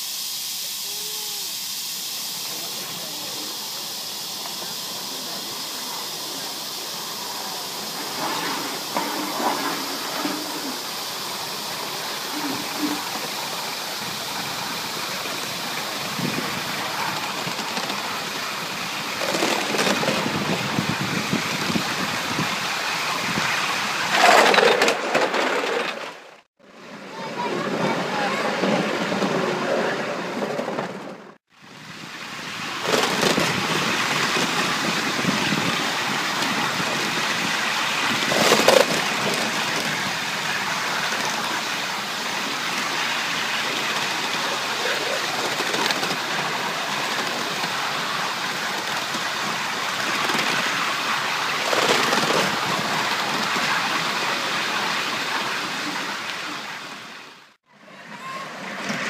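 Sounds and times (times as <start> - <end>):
model steam locomotive rushing: 0.0 - 59.0.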